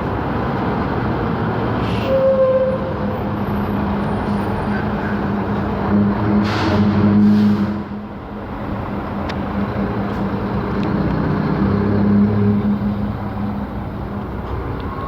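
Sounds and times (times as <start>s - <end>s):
vehicle engine humming: 2.8s - 15.0s.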